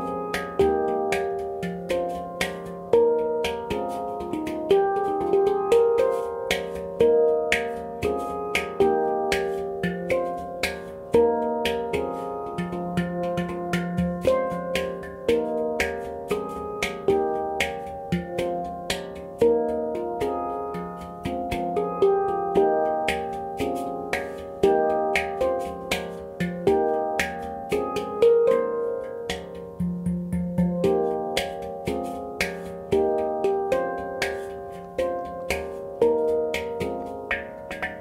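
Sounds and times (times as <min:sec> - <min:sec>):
handpan notes played by hand: 0:00.0 - 0:38.0.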